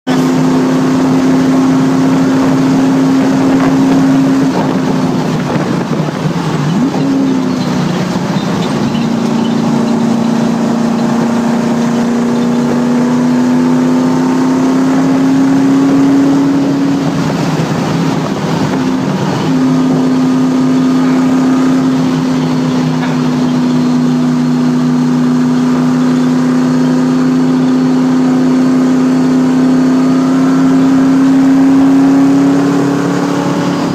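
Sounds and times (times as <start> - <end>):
race car engine from inside: 0.1 - 33.9.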